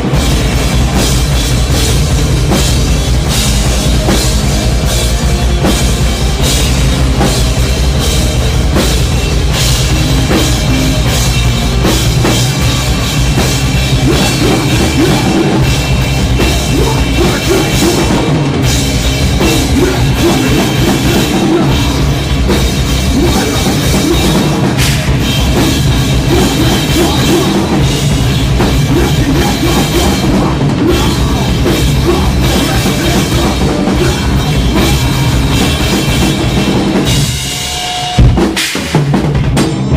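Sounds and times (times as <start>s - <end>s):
drum kit hitting: 0.0s - 39.9s
live rock music: 0.0s - 39.9s.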